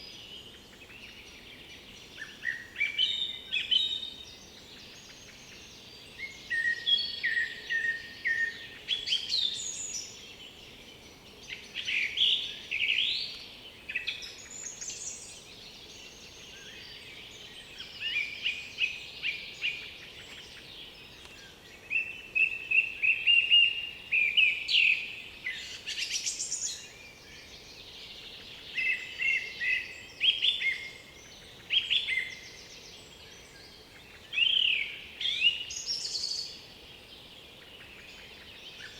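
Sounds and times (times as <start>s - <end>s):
faint steady background noise: 0.0s - 38.9s
songbirds singing: 0.0s - 38.9s.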